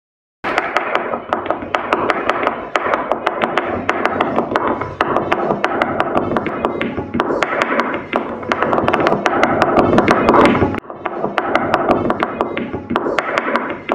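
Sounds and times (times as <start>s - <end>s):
sharp percussive taps: 0.5s - 13.9s.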